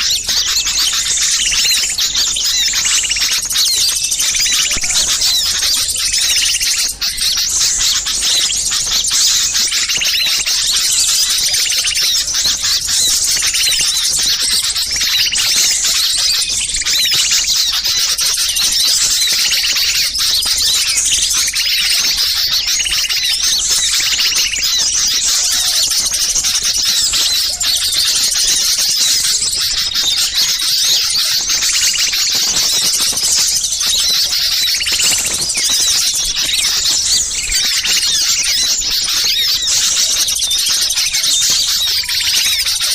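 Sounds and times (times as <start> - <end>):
small songbirds chirping: 0.0 - 42.9.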